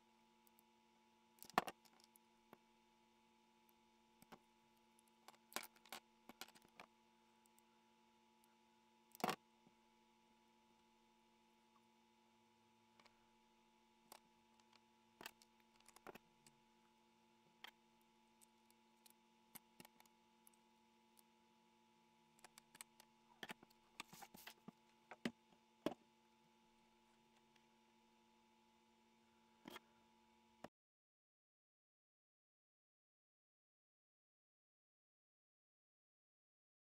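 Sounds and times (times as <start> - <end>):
electrical hum: 0.0 - 30.7.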